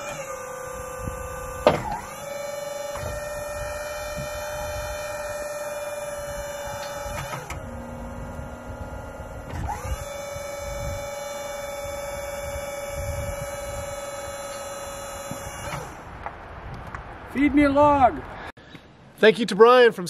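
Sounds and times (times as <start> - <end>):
sawmill whine: 0.0 - 16.4.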